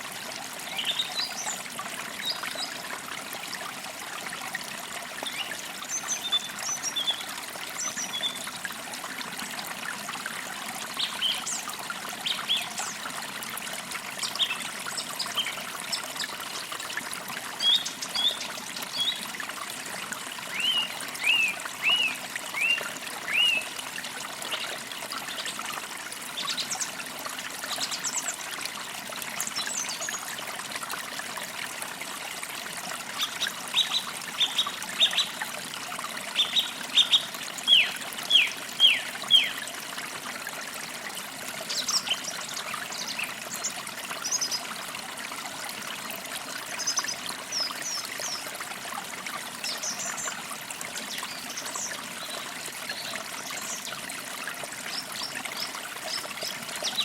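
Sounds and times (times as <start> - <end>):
creek trickling: 0.0 - 57.0.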